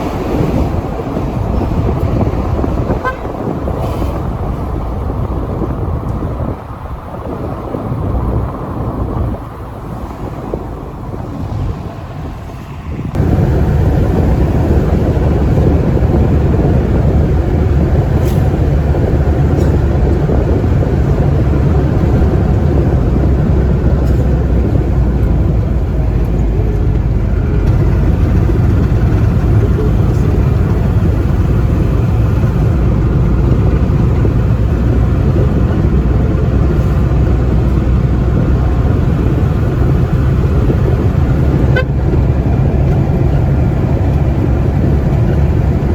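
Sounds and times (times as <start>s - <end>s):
road and wind noise: 0.0s - 45.9s
vehicle engine drone: 0.0s - 45.9s.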